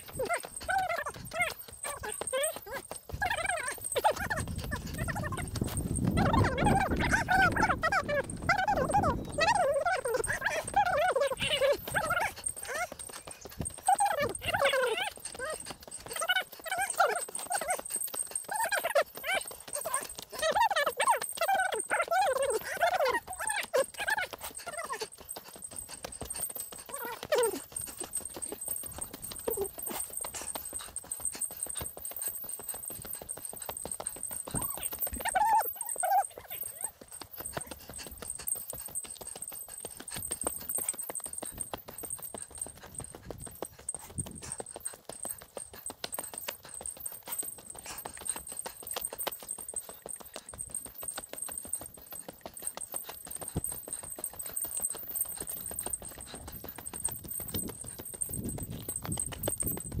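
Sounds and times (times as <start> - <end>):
footsteps crunching on track: 0.0 - 60.0.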